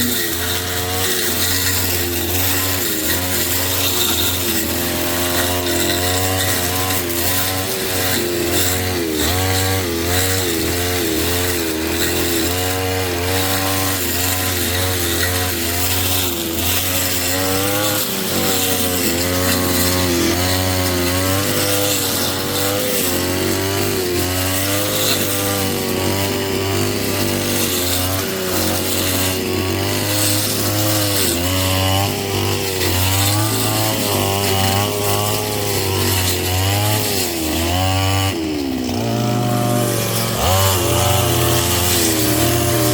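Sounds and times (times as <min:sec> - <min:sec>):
brush cutter engine revving: 0:00.0 - 0:42.9.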